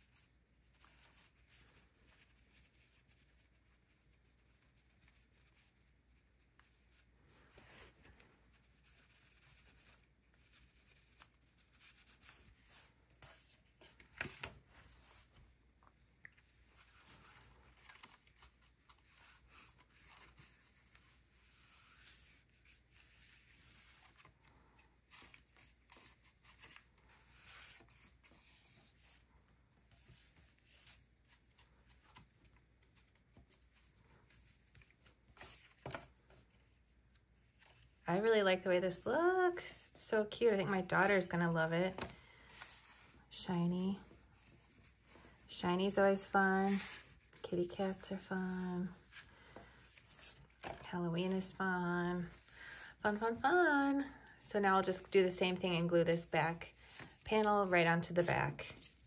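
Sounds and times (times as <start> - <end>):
paper rustling and rubbing: 0.0 - 15.5, 16.4 - 38.0, 40.5 - 51.6, 54.8 - 59.0.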